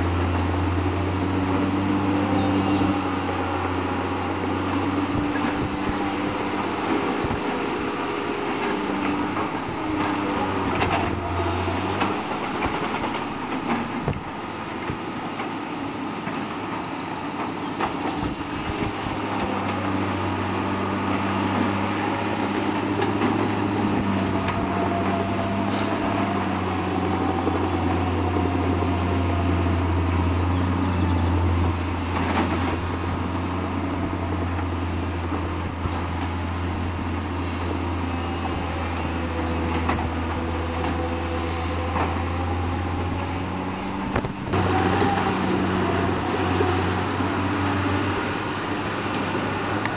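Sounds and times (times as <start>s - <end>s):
heavy diesel machinery droning: 0.0s - 49.9s.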